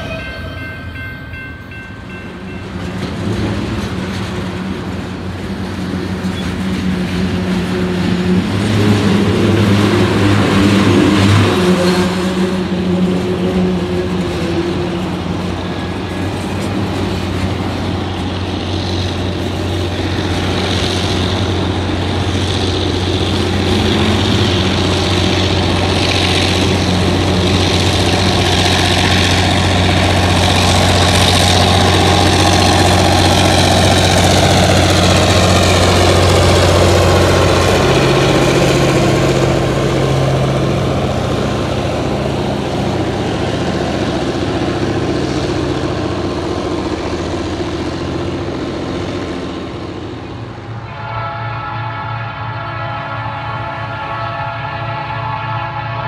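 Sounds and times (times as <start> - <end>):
diesel locomotive engine drone: 0.0 - 56.0
freight cars rumbling over rails: 0.0 - 56.0.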